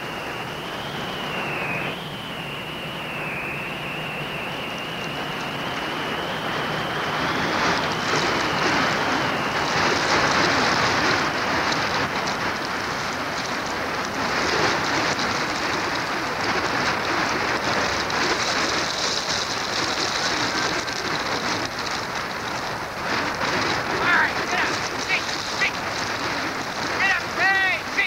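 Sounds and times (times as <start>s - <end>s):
wind rushing across snow: 0.0s - 28.0s.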